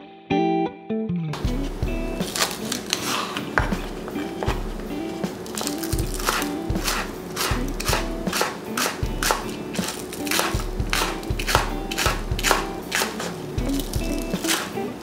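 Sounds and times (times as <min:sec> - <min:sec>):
soft background music: 0:00.0 - 0:15.0
knife slicing on cutting board: 0:02.2 - 0:14.8.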